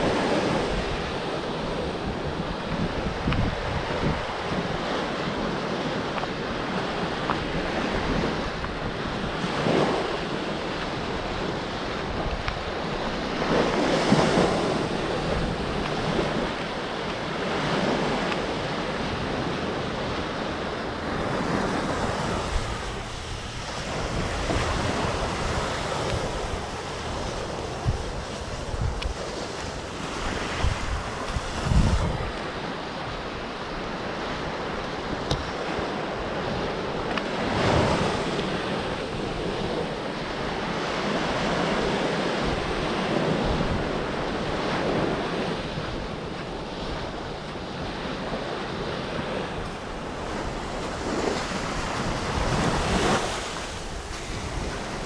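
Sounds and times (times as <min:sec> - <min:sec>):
surf washing onto beach: 0:00.0 - 0:55.0
wind buffeting microphone: 0:00.0 - 0:55.0.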